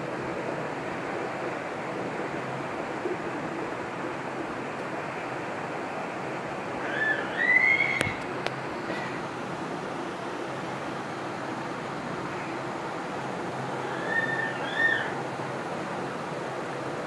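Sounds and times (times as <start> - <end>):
whooshing white noise: 0.0 - 17.0.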